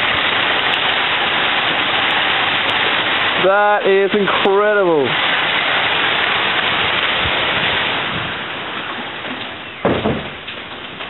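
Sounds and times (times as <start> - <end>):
hail and rain pelting ground: 0.0 - 11.0.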